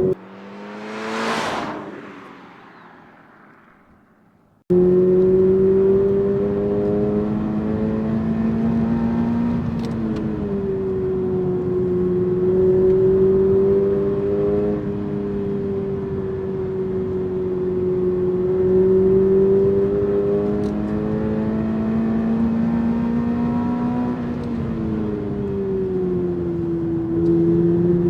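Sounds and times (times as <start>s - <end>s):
car engine running while driving: 0.0s - 28.0s.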